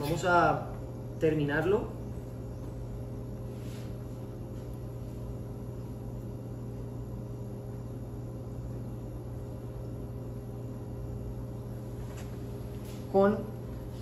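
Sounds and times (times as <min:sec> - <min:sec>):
kitchen equipment humming: 0:00.0 - 0:14.0.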